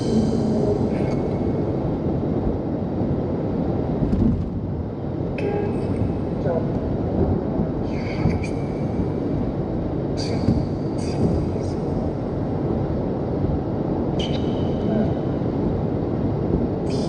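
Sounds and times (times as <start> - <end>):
white noise with echo: 0.0 - 17.0.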